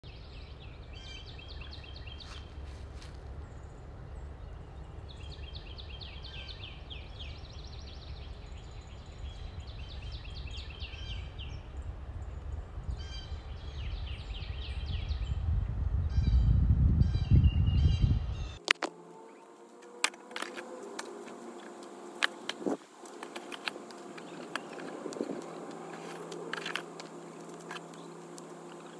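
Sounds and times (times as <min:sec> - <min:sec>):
songbird singing: 0:00.0 - 0:28.9
steady low rumble: 0:00.0 - 0:28.9.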